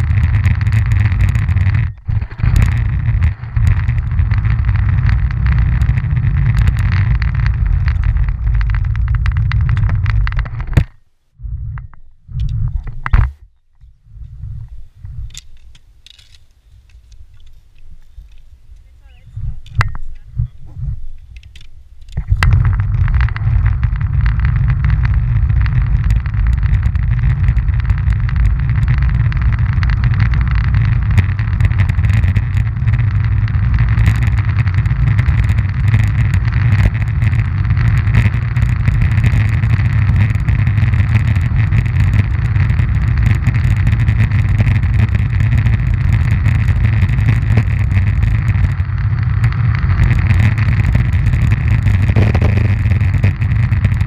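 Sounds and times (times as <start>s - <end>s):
wheels rolling on rough asphalt: 0.0s - 11.1s, 14.2s - 20.0s, 20.8s - 54.0s.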